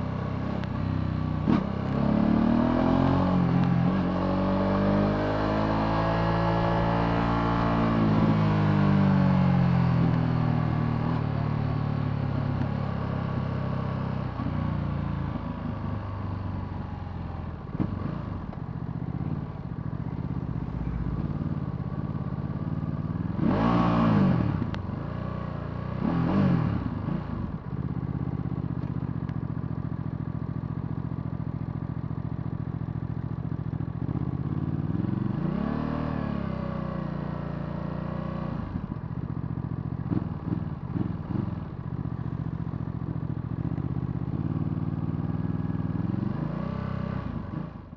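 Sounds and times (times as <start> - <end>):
motorcycle engine revving: 0.0 - 14.2, 16.6 - 29.3, 30.1 - 47.9.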